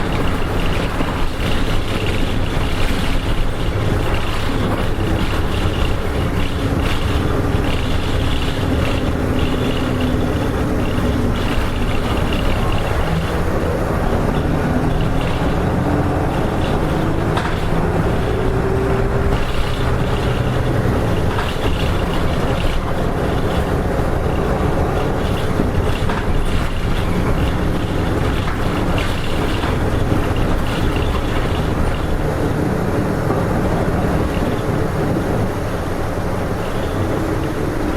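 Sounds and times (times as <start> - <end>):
rattle: 0.0 - 35.2
bus diesel engine: 0.0 - 37.9
road noise: 0.0 - 37.9.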